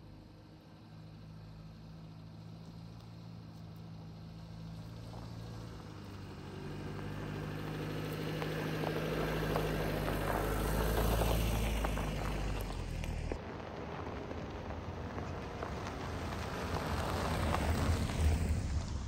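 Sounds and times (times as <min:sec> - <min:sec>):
low engine hum: 0:00.0 - 0:19.0
tyres crunching over dirt: 0:01.9 - 0:19.0.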